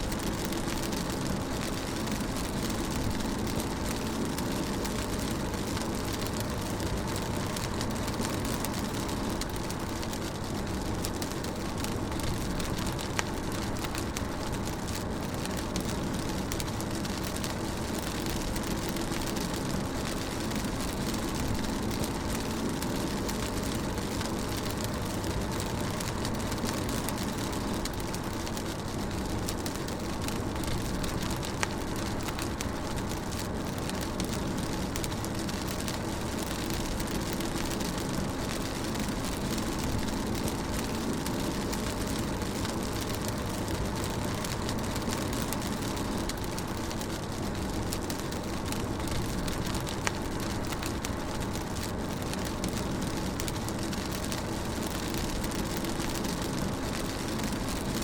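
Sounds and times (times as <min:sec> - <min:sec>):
faint raindrop ticks: 0:00.0 - 0:58.0
rain and tyres hissing: 0:00.0 - 0:58.0.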